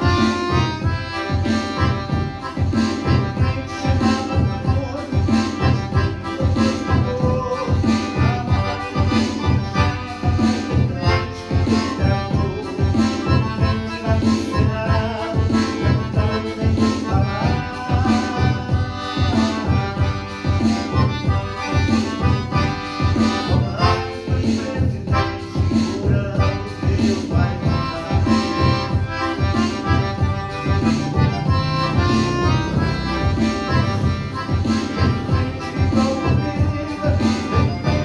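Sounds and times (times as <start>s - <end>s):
piano accordion playing lively tune: 0.0s - 38.0s.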